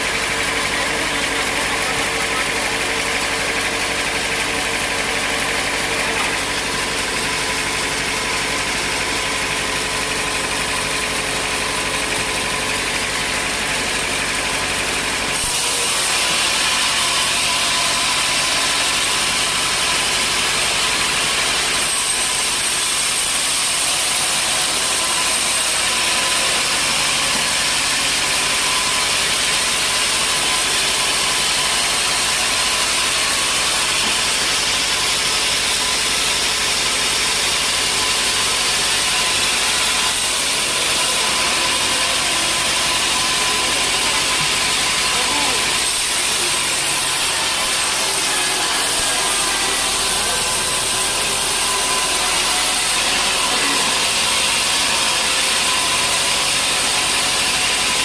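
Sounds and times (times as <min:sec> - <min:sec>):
sawmill machinery humming and hissing: 0:00.0 - 0:58.0.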